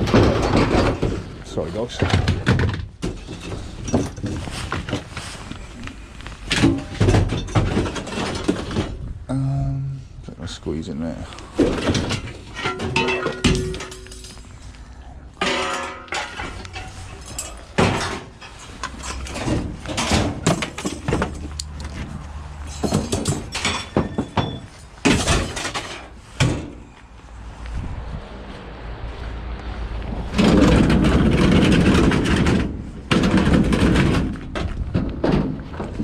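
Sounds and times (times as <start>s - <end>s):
scrap metal banging and clanking: 0.0s - 5.7s, 6.4s - 9.1s, 11.5s - 27.0s, 30.2s - 36.0s.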